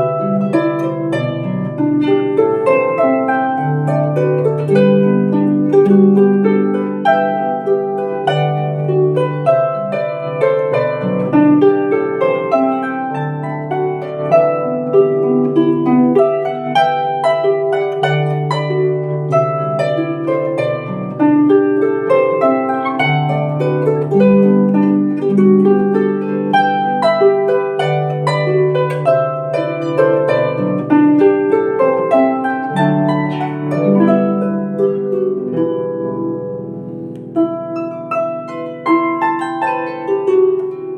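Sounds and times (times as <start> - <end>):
harp melody: 0.0 - 40.9.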